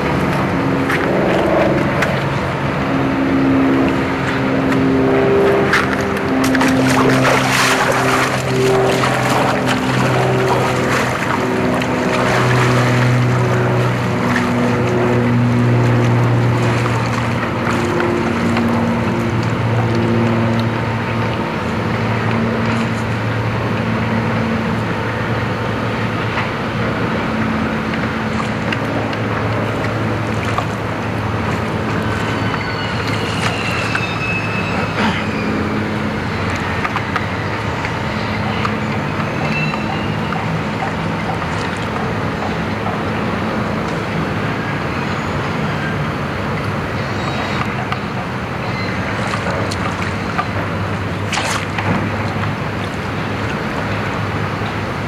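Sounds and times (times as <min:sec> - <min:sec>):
low engine drone: 0:00.0 - 0:55.0
wind and water noise: 0:00.0 - 0:55.0.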